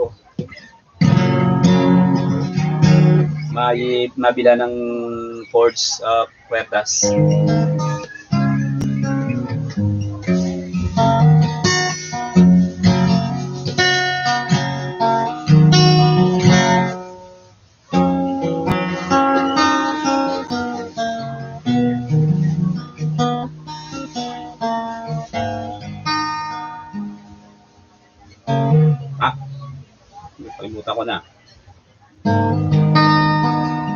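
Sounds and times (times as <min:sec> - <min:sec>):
acoustic guitar playing: 0:00.0 - 0:33.9.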